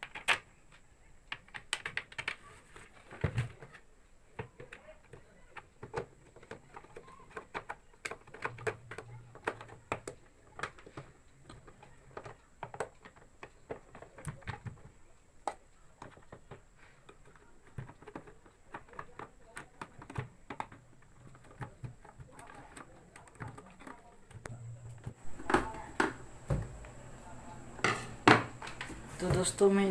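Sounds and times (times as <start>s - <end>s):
plastic and metal parts clicking: 0.0s - 26.1s.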